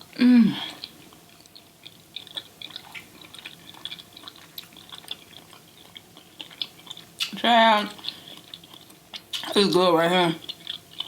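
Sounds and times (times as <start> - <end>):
wet chewing mouth sounds: 0.6 - 9.6, 10.2 - 11.0.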